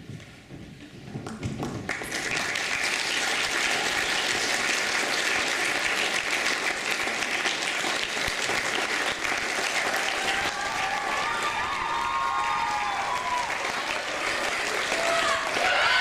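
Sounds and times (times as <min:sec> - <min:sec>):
audience applause: 0:01.2 - 0:16.0.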